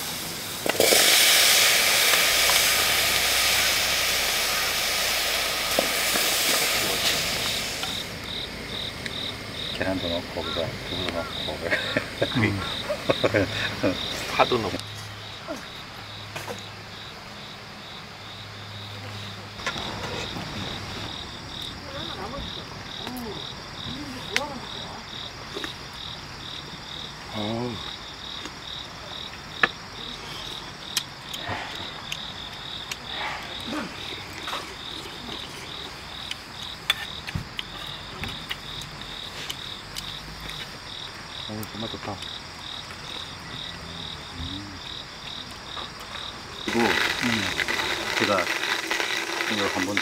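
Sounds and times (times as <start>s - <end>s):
insects chirping: 0.0s - 50.0s
steady high hiss: 0.0s - 50.0s.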